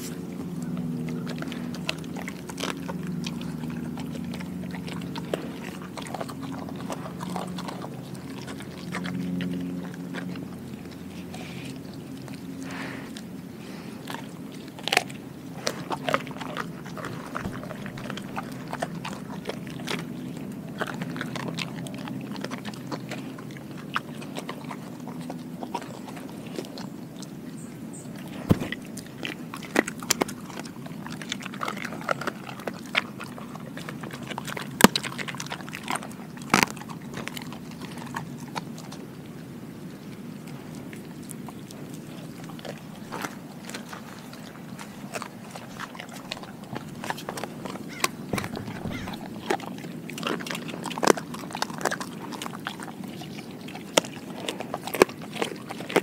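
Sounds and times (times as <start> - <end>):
dog chewing bones crunching: 0.0 - 56.0.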